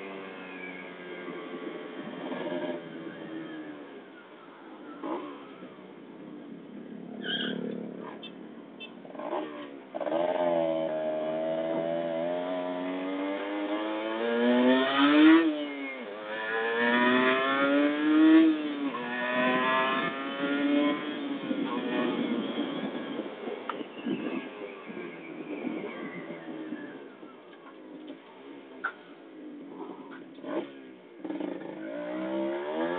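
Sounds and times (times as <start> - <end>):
motorcycle engine accelerating: 0.0 - 4.2, 4.8 - 32.9
motorcycle skidding: 0.0 - 27.4, 28.0 - 32.9.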